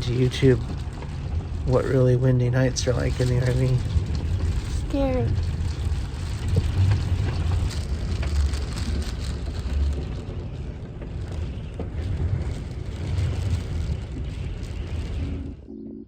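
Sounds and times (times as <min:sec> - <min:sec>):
strong wind gusting: 0:00.0 - 0:15.8
wind buffeting microphone: 0:00.0 - 0:15.8.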